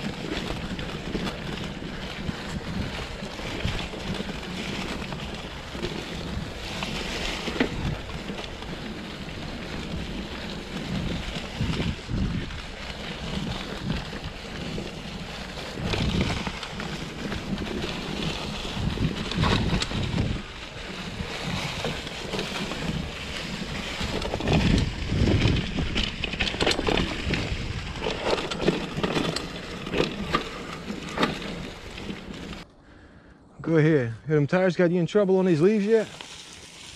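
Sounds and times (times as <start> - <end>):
wind rumble on microphone: 0.0 - 32.6
bike tyres rustling through leaves: 0.0 - 33.2, 34.6 - 36.9
bike clicks and knocks: 0.1 - 32.7.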